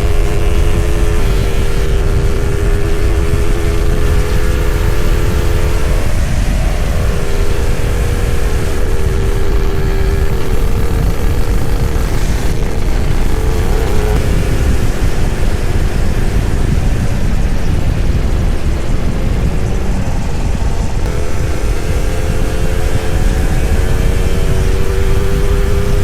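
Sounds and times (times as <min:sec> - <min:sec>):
two-stroke motorcycle engine: 0:00.0 - 0:26.0
wind rumble on microphone: 0:00.0 - 0:26.0.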